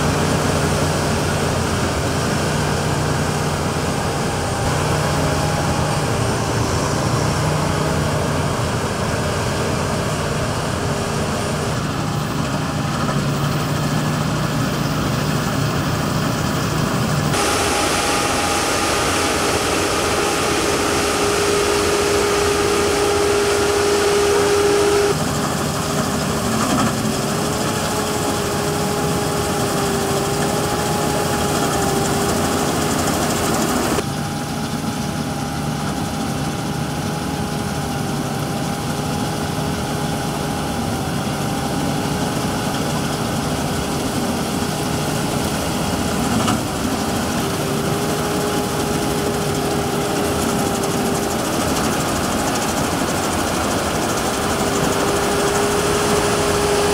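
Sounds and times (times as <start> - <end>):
combine harvester machinery drone: 0.0 - 56.9.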